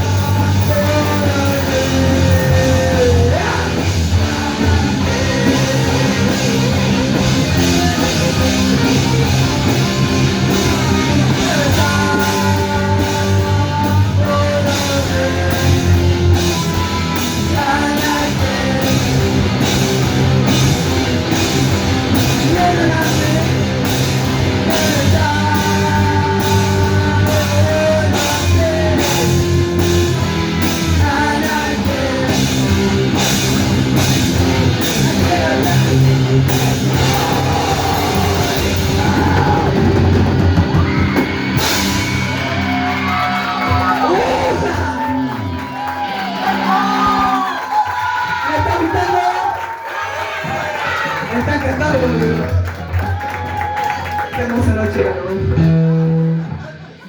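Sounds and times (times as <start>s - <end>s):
person singing: 0.0s - 20.6s, 22.0s - 47.6s
bass guitar: 0.0s - 47.8s, 51.2s - 57.0s
electric guitars: 0.0s - 49.1s, 50.4s - 57.0s
drums: 0.0s - 57.0s.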